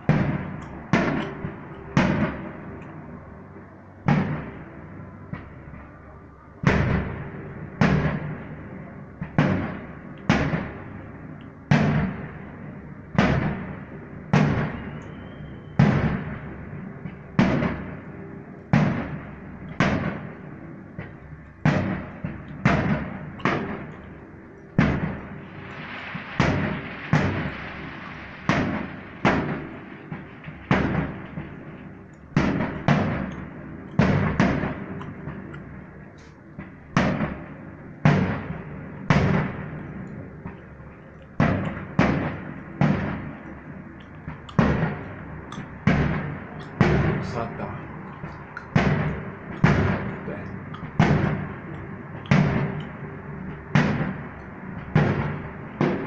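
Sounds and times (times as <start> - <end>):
firework shells bursting: 0.0 - 5.5, 6.6 - 56.0
hissing crackle: 0.0 - 56.0.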